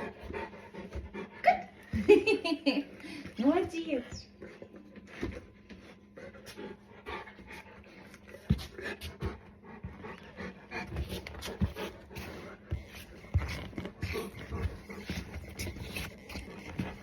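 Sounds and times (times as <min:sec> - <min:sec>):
dog panting: 0:00.0 - 0:01.9, 0:03.0 - 0:17.0.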